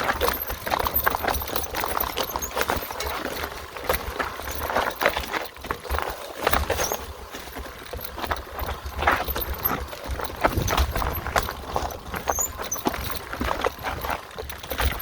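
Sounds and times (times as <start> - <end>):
bike frame rattling and knocking: 0.0 - 15.0.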